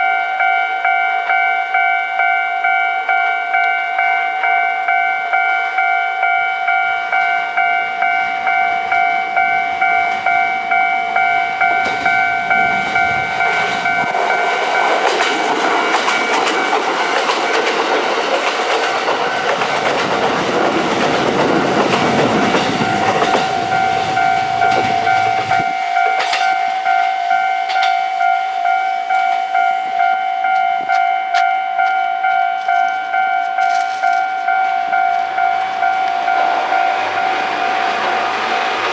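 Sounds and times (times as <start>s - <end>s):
level-crossing alarm clanging: 0.0s - 38.9s
train rumble and wheel clatter: 0.0s - 38.9s.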